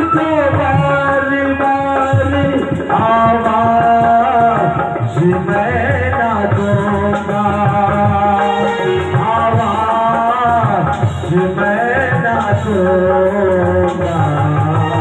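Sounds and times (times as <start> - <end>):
hand drum rhythm: 0.0 - 15.0
keyboard melody: 0.0 - 15.0
man singing through a pa: 0.0 - 15.0.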